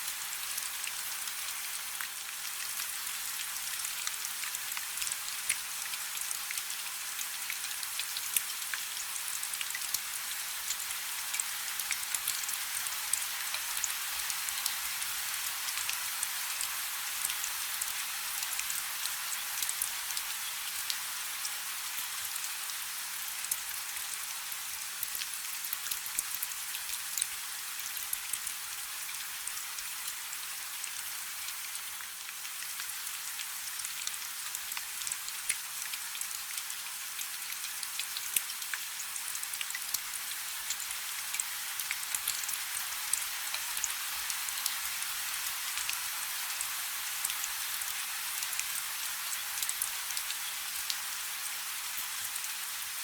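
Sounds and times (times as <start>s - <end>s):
rain falling on a river: 0.0s - 53.0s.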